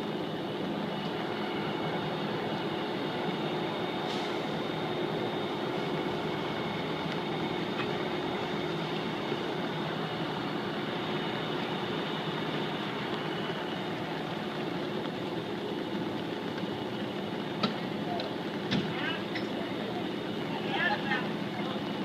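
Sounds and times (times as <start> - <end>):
fire truck engine droning: 0.0 - 22.0.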